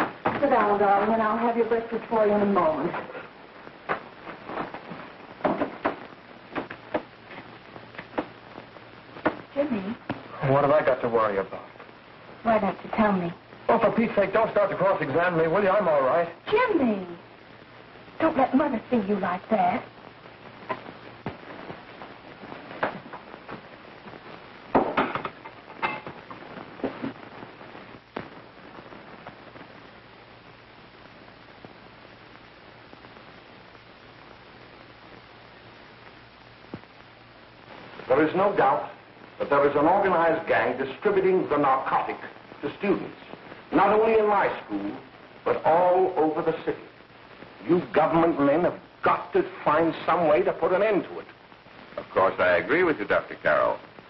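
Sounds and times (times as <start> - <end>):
film soundtrack hiss: 0.0 - 54.0.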